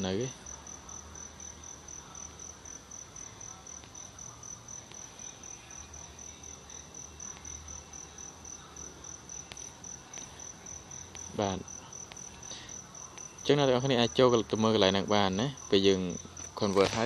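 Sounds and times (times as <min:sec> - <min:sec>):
cricket chirping: 0:00.0 - 0:17.0
faint low room noise: 0:00.0 - 0:17.0.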